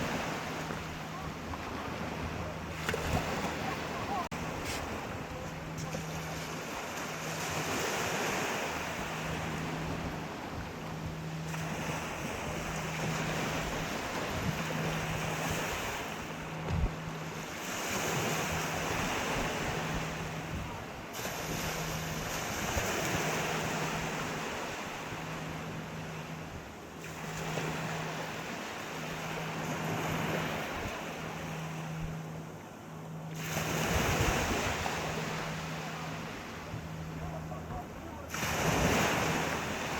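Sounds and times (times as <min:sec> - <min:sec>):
pulsing low hum: 0:00.0 - 0:39.9
sea waves breaking on shore: 0:00.0 - 0:39.9.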